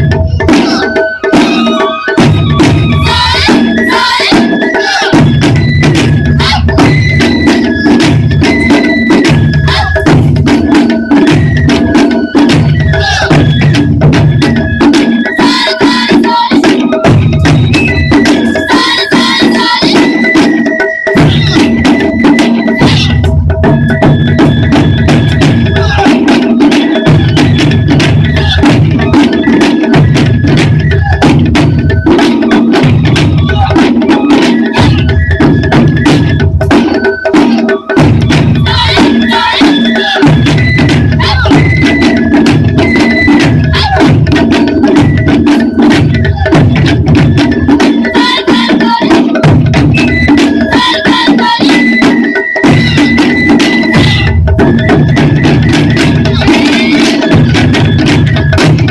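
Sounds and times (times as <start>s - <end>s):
deep big drum beats: 0.0s - 51.6s, 52.7s - 58.9s
drum ensemble playing: 0.0s - 58.9s
high held tones: 0.0s - 58.9s.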